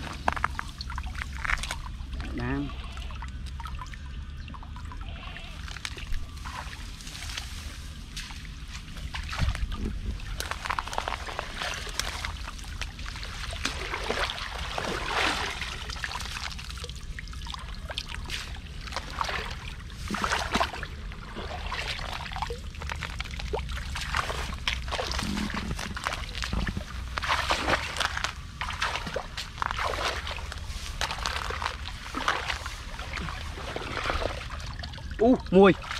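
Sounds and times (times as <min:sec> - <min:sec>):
shallow water sloshing: 0:00.0 - 0:35.9
water pouring and trickling: 0:00.0 - 0:35.9.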